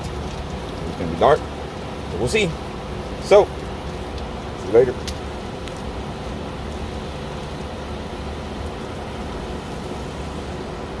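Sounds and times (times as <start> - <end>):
condenser running with faint hum: 0.0 - 11.0
sprinkler spraying water: 0.0 - 11.0.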